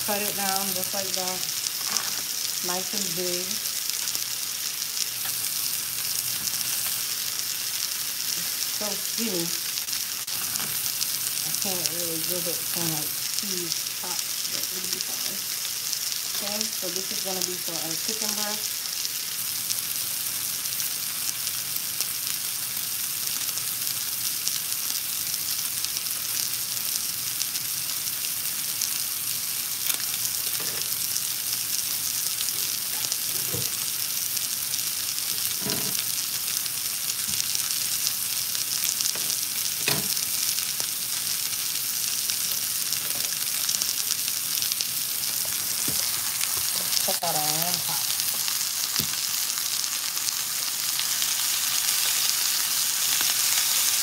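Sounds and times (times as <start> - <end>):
meat sizzling in a skillet: 0.0 - 54.0.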